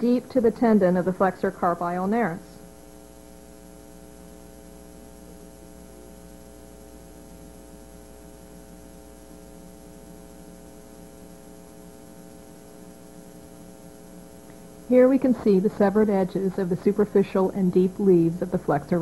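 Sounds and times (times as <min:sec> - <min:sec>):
electrical mains hum: 0:00.0 - 0:19.0
low background hiss: 0:00.0 - 0:19.0.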